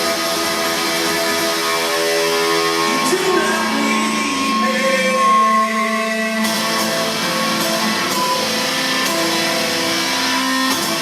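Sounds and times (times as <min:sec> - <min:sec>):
live guitar music: 0:00.0 - 0:11.0.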